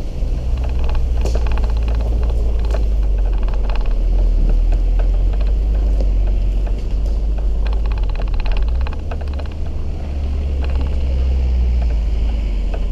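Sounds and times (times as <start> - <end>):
stones and suspension rattling: 0.0 - 12.9
tyre noise on dirt track: 0.0 - 12.9
wind buffeting: 0.0 - 12.9.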